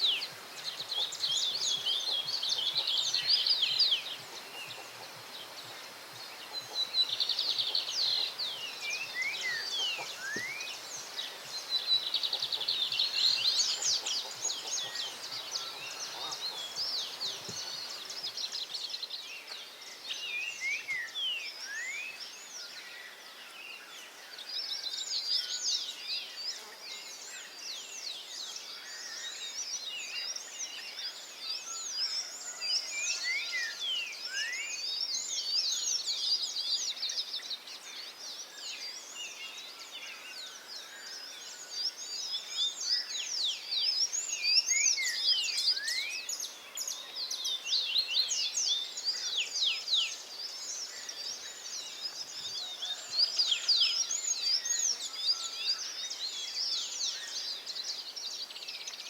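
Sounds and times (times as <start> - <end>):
wild birds chirping and trilling: 0.0 - 59.0.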